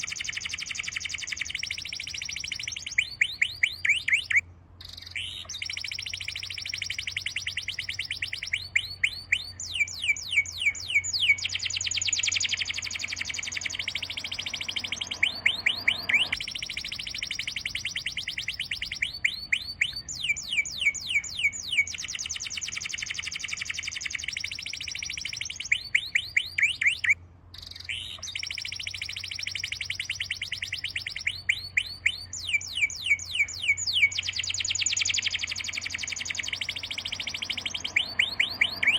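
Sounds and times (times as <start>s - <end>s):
birds whistling and chirping: 0.0s - 38.9s
faint low hum: 0.0s - 38.9s.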